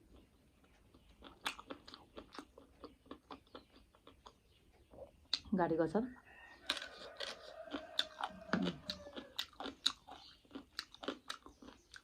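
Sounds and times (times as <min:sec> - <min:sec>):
person chewing crunchy food: 0:00.0 - 0:05.4, 0:06.4 - 0:12.0.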